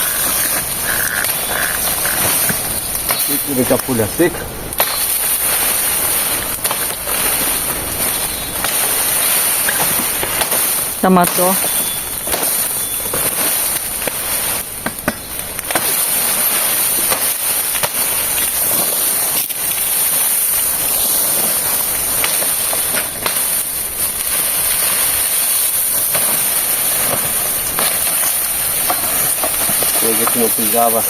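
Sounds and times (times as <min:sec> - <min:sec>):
dry palm fronds rustling: 0:00.0 - 0:31.0.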